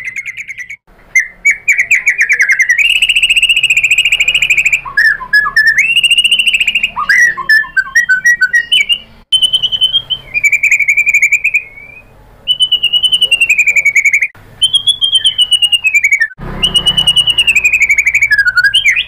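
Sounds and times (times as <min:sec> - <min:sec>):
bird singing fast trills: 0:00.0 - 0:19.0.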